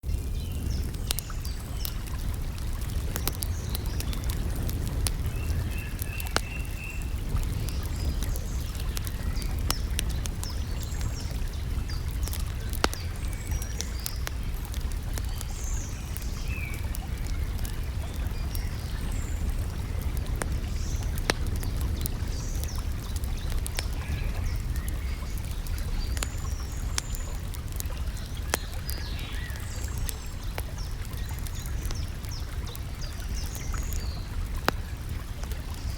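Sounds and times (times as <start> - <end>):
campfire crackling and popping: 0.0 - 35.9
small birds chirping: 0.1 - 35.9.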